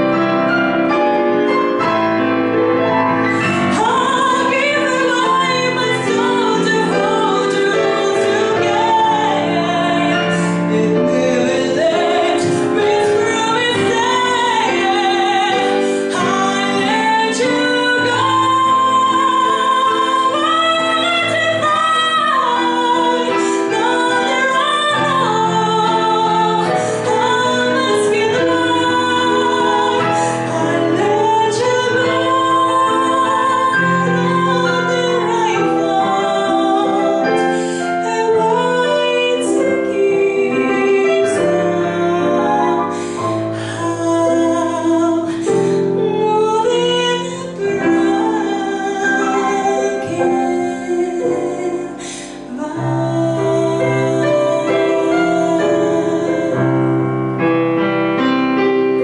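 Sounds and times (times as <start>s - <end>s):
digital piano chords: 0.0s - 59.0s
woman singing: 3.2s - 57.0s.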